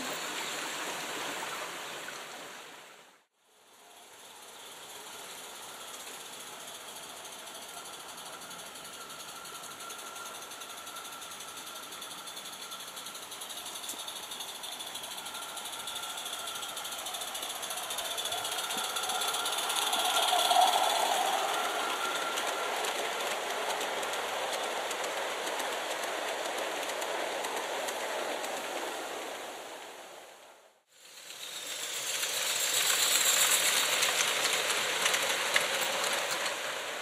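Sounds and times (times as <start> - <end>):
model train clattering on track: 4.9 - 29.0, 31.2 - 37.0.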